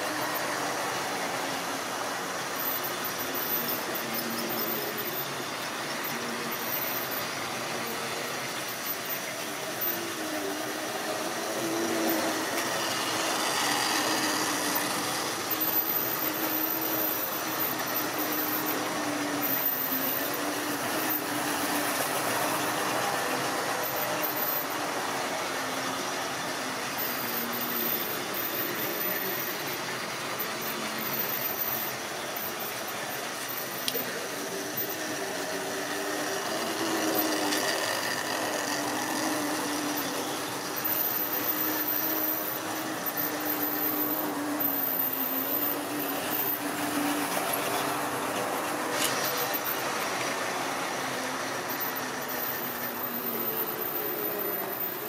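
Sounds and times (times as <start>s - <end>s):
model train motor hum: 0.0s - 55.0s
model train wheels clattering on rails: 0.0s - 55.0s.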